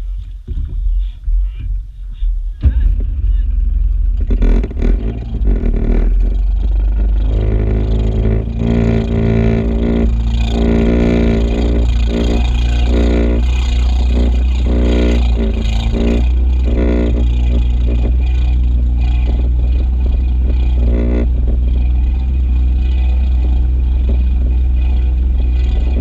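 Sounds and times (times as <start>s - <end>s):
jet ski engine revving: 4.2s - 26.0s.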